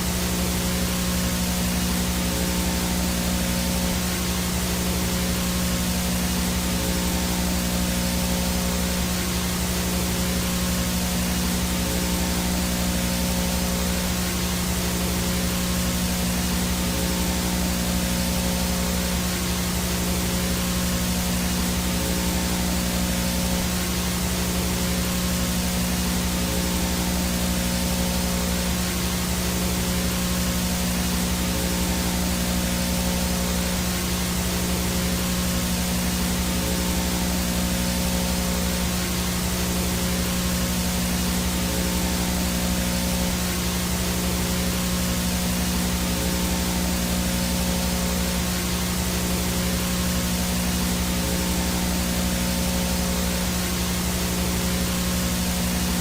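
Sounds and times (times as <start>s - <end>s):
video static hiss: 0.0s - 56.0s.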